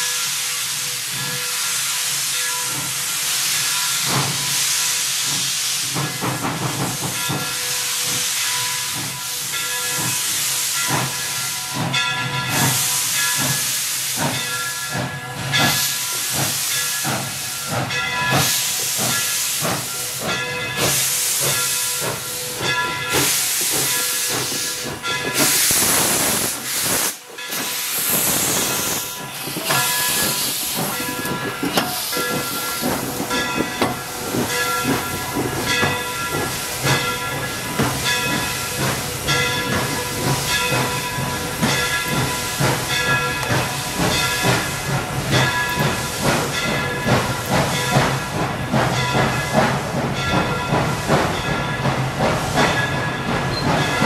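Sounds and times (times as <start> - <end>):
hiss of steam: 0.0 - 54.0
rush of steam: 0.0 - 54.0
steam locomotive exhaust beats: 0.0 - 54.0.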